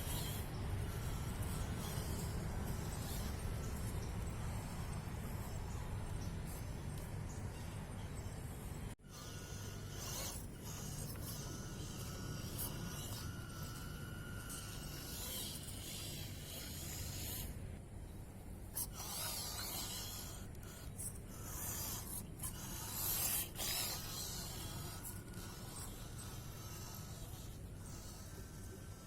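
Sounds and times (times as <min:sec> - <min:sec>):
toy truck tyres churning sand: 0:00.0 - 0:17.6, 0:18.6 - 0:29.0.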